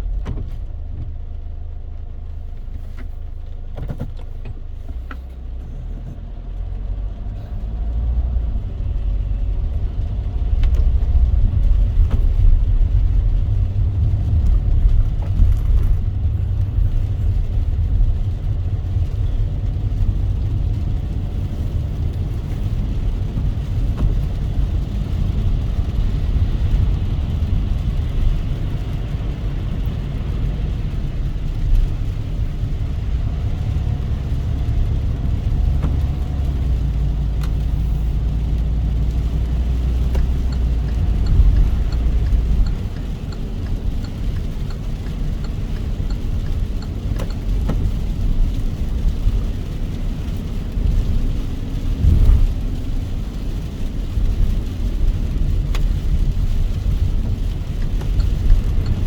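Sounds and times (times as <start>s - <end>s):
car road and engine rumble: 0.0s - 59.0s
rain and tyre spray hiss: 0.0s - 59.0s.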